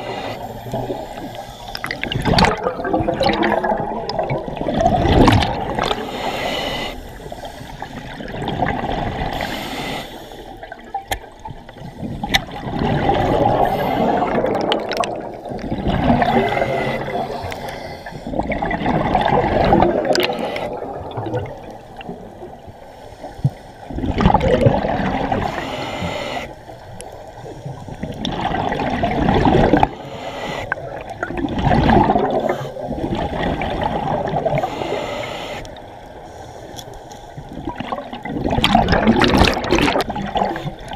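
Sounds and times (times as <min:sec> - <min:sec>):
exhaled air bubbles gurgling underwater: 0:00.0 - 0:10.0, 0:10.6 - 0:22.8, 0:23.8 - 0:36.1, 0:37.4 - 0:40.9.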